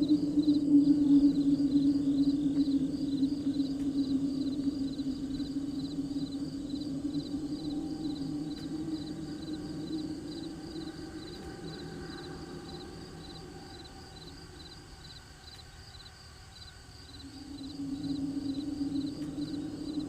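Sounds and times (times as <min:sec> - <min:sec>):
crickets chirping: 0:00.0 - 0:20.0
low steady hum: 0:00.0 - 0:20.0.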